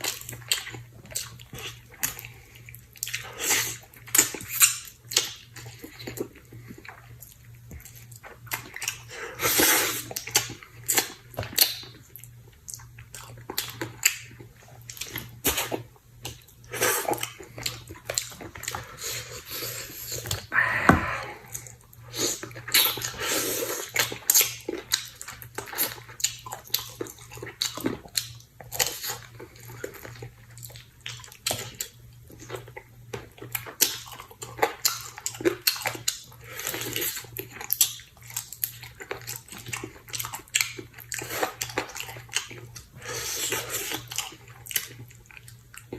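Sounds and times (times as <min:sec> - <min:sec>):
wet chewing and slurping: 0:00.0 - 0:45.9.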